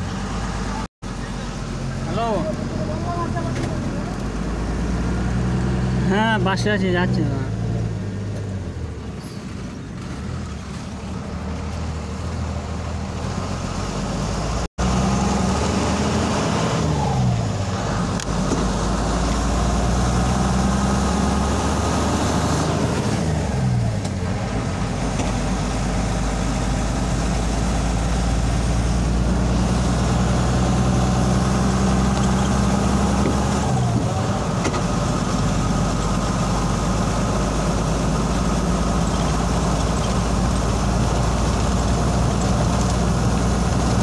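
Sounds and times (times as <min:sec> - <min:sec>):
road noise: 0:00.0 - 0:44.0
vehicle engine running: 0:00.0 - 0:44.0.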